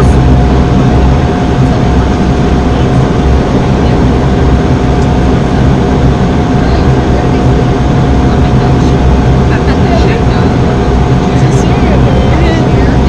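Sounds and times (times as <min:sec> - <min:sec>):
airliner engine and propeller drone: 0:00.0 - 0:13.0.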